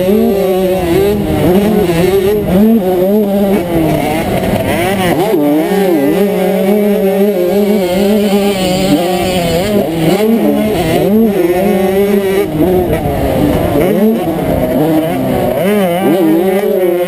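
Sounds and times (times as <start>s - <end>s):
two-stroke motocross engine revving: 0.0s - 17.0s.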